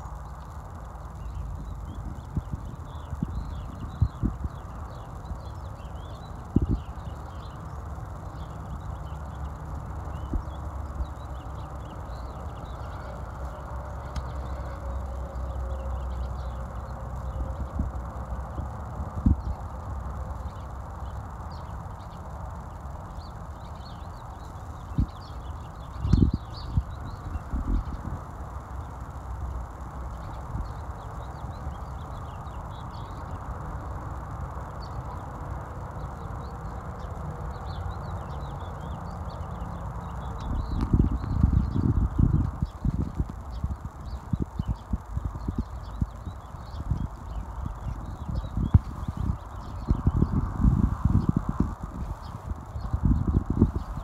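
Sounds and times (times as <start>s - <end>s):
low outdoor rumble: 0.0s - 54.0s
small birds chirping: 0.0s - 54.0s.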